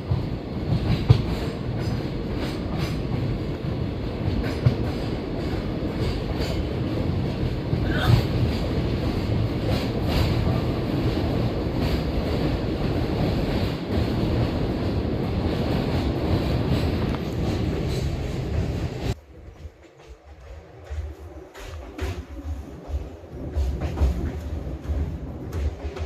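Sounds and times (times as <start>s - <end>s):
train knocks: 0.0s - 26.0s
train wheels rumbling on rails: 0.0s - 26.0s.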